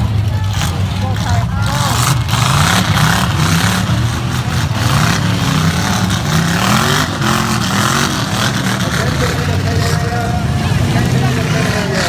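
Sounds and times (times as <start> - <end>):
race truck engines revving: 0.0 - 12.0.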